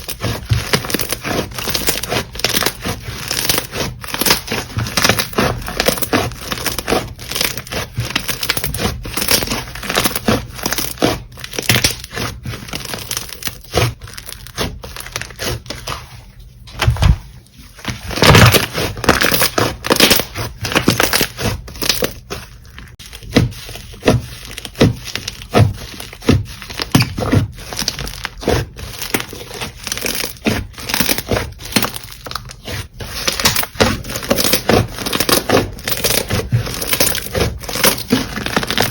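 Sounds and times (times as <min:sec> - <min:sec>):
crunchy slime crackling: 0:00.0 - 0:16.1, 0:17.8 - 0:38.9.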